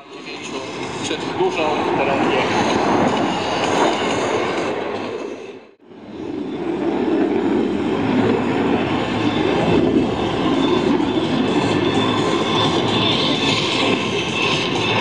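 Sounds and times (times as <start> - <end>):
jet fighter rumbling overhead: 0.0 - 15.0.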